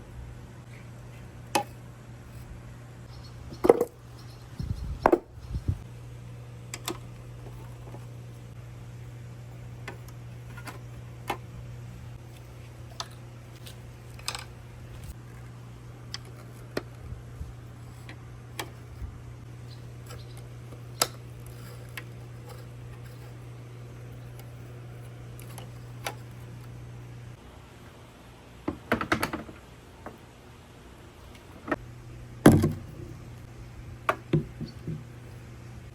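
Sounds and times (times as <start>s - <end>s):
steady low hum: 0.0s - 28.9s, 29.5s - 35.9s.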